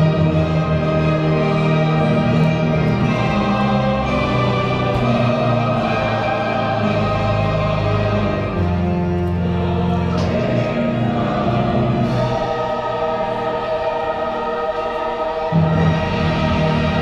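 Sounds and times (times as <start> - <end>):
choir singing sustained chords: 0.0 - 17.0
orchestral music: 0.0 - 17.0.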